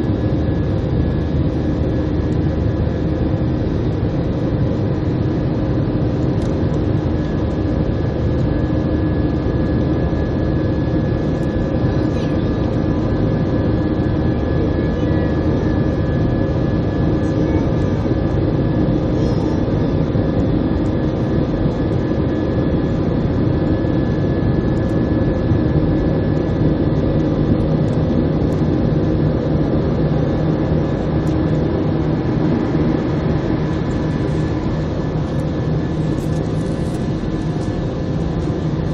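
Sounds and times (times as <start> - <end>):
constant whining tones: 0.0 - 38.9
jet engine roar inside cabin: 0.0 - 38.9.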